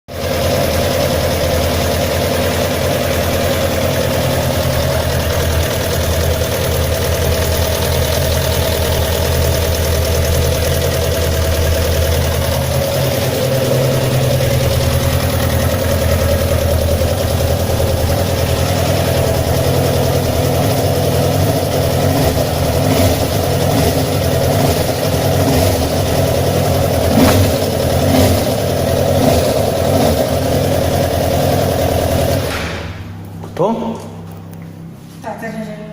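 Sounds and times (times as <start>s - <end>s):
motorcycle engine idling with ticking: 0.1s - 32.5s.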